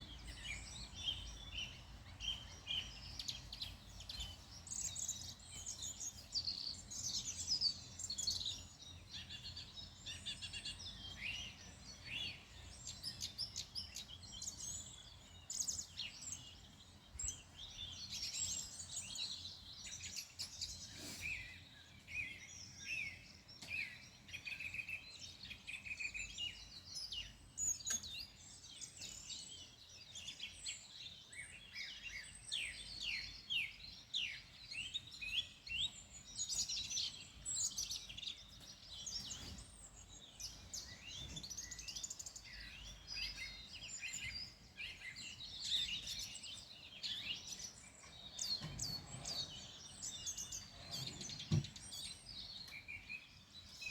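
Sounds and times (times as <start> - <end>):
songbirds singing and chirping: 0.0 - 53.9.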